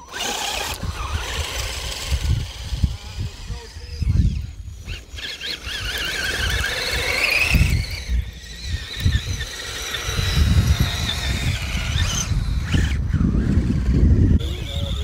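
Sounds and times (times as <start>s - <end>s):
toy truck electric motors whining: 0.0s - 15.0s.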